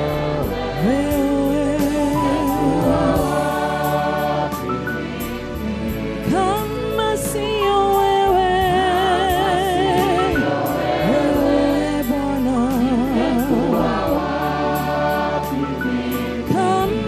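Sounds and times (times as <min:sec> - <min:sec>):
woman singing gospel song: 0:00.0 - 0:04.2, 0:06.2 - 0:14.2, 0:15.5 - 0:17.0
musical accompaniment: 0:00.0 - 0:17.0.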